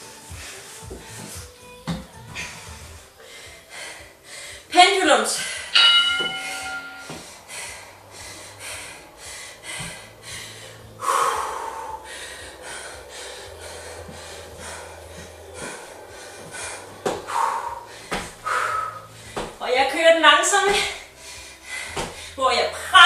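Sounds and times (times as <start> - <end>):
woman breathing hard: 0.0 - 4.7, 5.4 - 19.6, 20.7 - 22.4.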